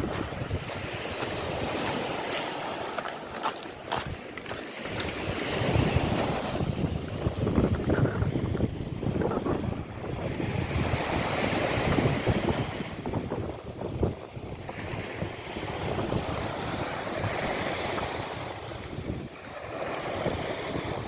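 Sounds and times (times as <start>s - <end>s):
sea waves washing on shore: 0.0s - 21.0s
wind buffeting microphone: 0.0s - 21.0s.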